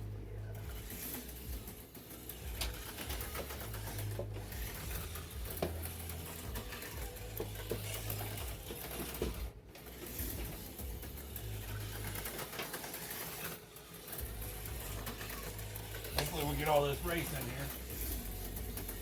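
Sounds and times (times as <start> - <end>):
slot car motor buzzing: 0.0 - 19.0.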